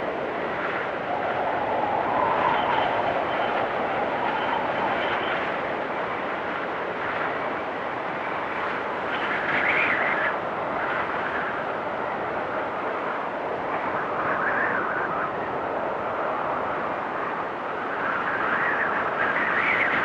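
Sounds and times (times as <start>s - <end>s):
whistling storm wind: 0.0s - 20.0s.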